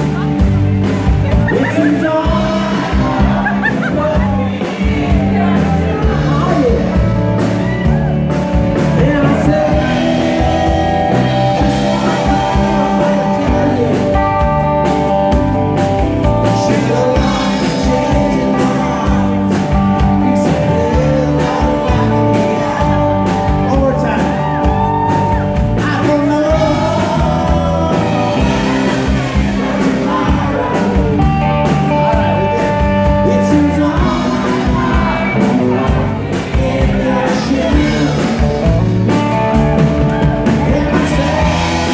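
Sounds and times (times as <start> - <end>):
live rock band: 0.0 - 41.9
man singing: 1.2 - 7.6, 8.7 - 41.9.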